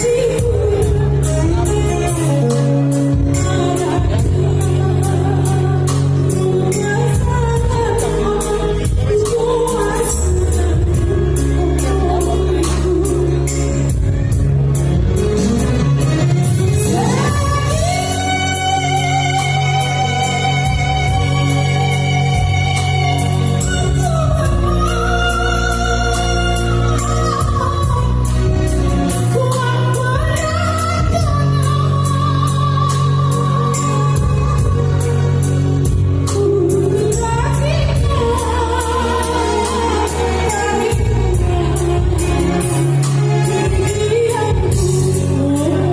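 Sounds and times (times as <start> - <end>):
woman singing: 0.0 - 14.4, 16.3 - 45.9
held bass line: 0.0 - 45.9.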